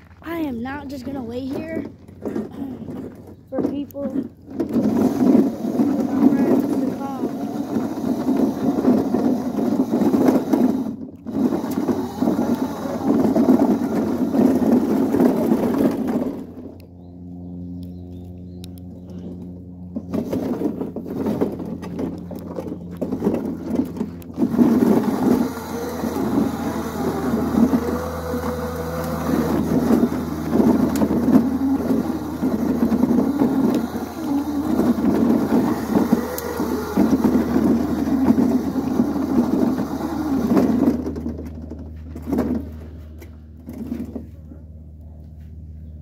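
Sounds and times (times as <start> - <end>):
steady low hum: 0.0 - 46.0
electric motor whining: 1.0 - 44.2.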